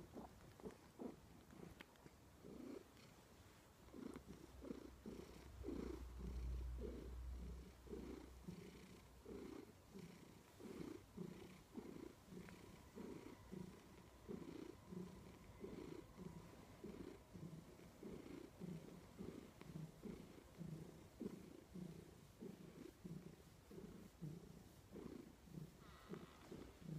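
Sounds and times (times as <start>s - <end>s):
cat purring: 0.0s - 26.9s.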